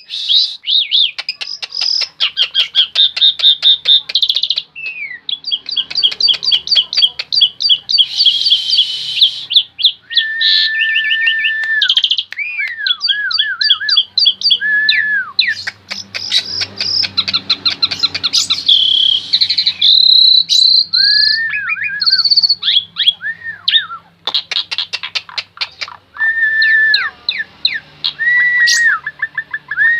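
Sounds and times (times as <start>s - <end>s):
starling singing: 0.0s - 29.9s.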